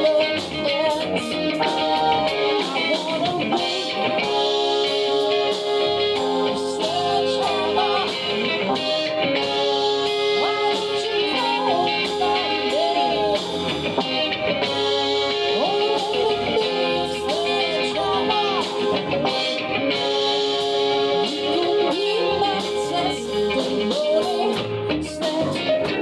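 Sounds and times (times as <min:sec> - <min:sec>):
person singing: 0:00.0 - 0:26.0
song with guitar and drums: 0:00.0 - 0:26.0.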